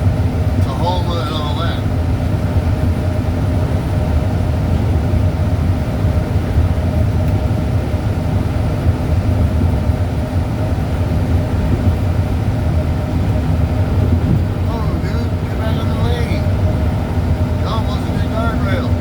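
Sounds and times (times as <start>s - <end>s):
faint constant hum: 0.0s - 19.0s
vehicle engine and road noise: 0.0s - 19.0s.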